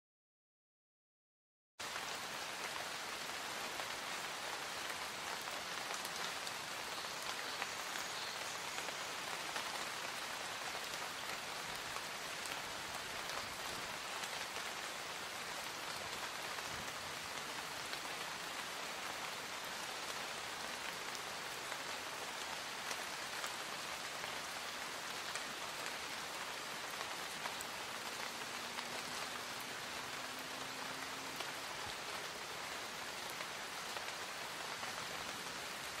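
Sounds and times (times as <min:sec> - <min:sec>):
light rain hissing: 0:01.8 - 0:36.0.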